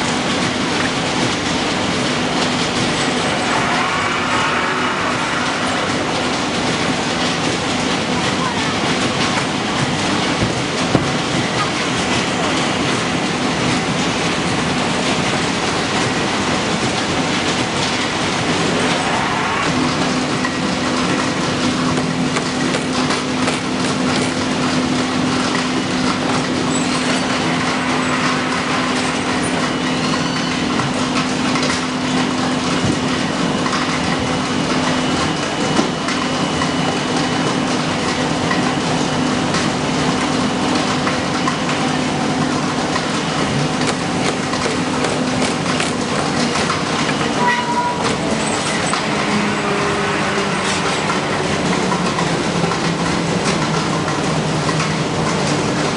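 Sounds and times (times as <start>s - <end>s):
conveyor belts and rollers clattering: 0.0s - 55.9s
steady machine hum: 0.0s - 55.9s.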